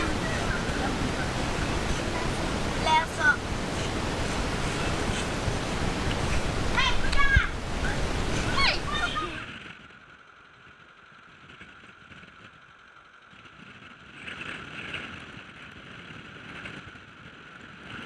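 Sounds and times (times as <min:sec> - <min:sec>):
wind on microphone: 0:00.0 - 0:10.1, 0:10.8 - 0:18.0.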